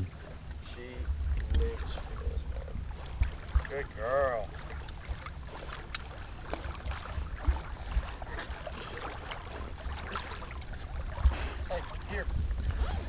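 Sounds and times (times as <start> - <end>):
light splashes: 0.0 - 13.0
wind rumbling on microphone: 0.0 - 13.0.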